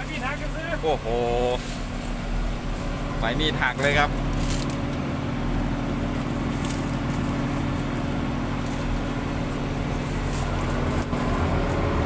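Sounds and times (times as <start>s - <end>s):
harvester diesel engine humming: 0.0s - 12.0s.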